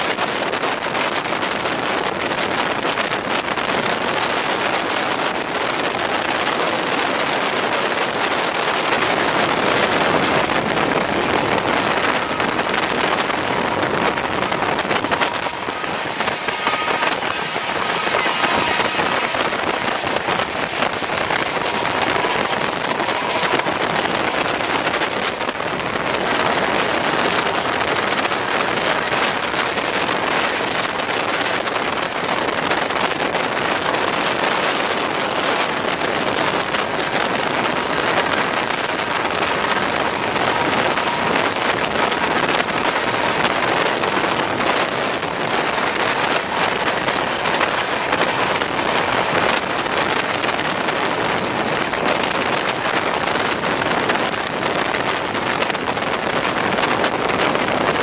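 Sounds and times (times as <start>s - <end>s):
train wheel and track noise: 0.0s - 58.0s
wind buffeting microphone: 0.0s - 58.0s.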